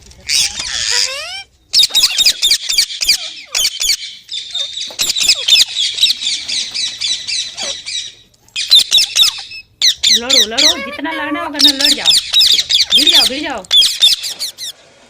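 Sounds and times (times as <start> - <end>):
parakeet squawking: 0.3 - 14.8.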